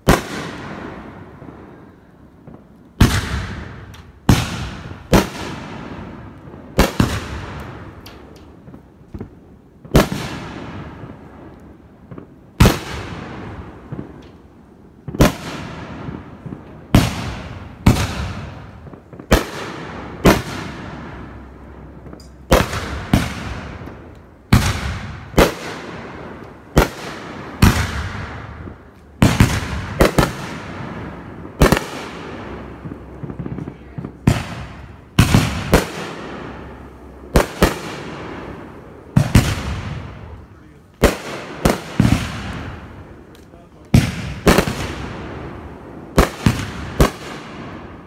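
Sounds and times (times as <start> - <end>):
fireworks bursting with sharp bangs: 0.0 - 48.0.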